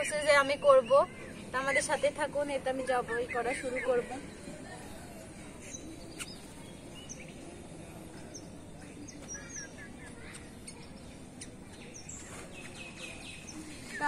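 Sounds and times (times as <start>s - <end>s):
low steady background hum: 0.0s - 14.0s
small birds chirping: 0.0s - 14.0s.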